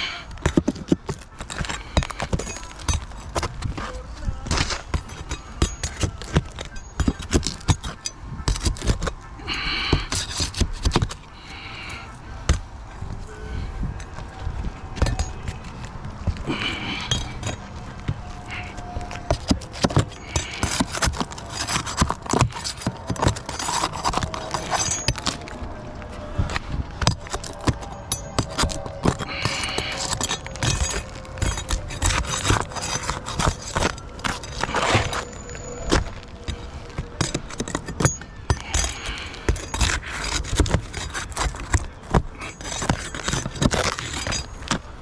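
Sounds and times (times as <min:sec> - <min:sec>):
metal scraping: 0:00.0 - 0:45.0.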